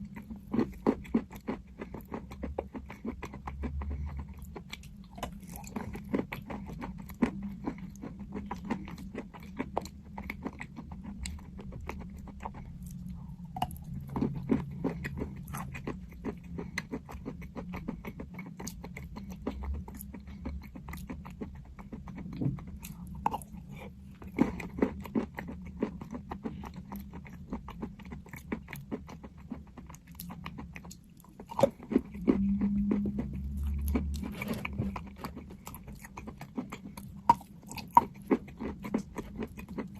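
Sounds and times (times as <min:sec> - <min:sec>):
chalk crunching while chewed: 0:00.0 - 0:39.9
low hum: 0:03.3 - 0:39.9.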